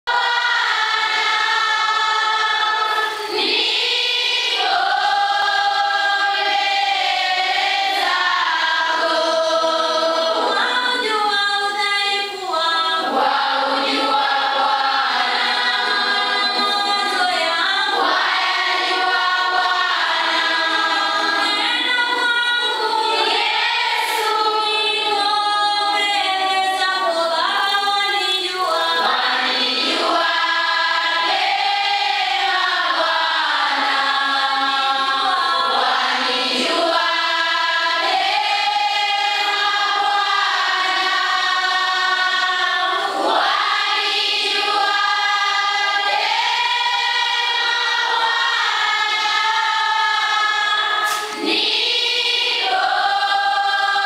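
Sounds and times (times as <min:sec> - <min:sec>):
girls choir singing: 0:00.0 - 0:54.0.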